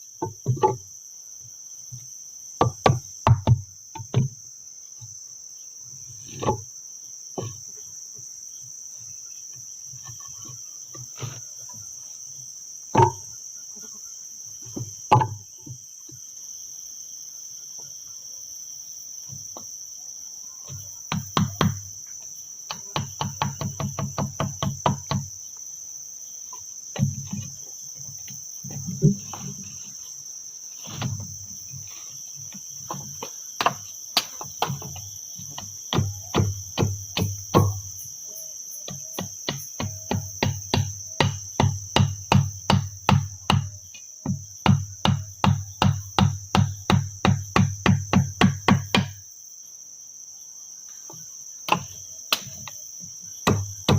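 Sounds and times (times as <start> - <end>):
crickets droning: 0.0 - 53.9.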